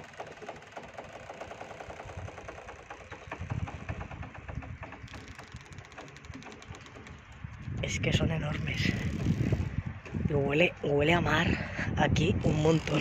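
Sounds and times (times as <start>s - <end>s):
mooring ropes creaking: 0.0s - 10.3s, 12.2s - 13.0s.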